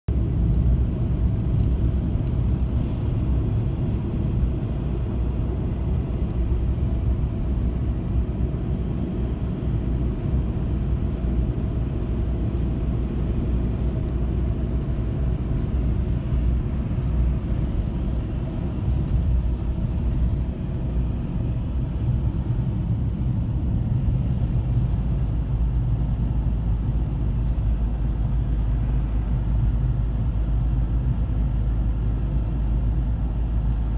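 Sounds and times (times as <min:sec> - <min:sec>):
car engine rumble: 0:00.1 - 0:33.9.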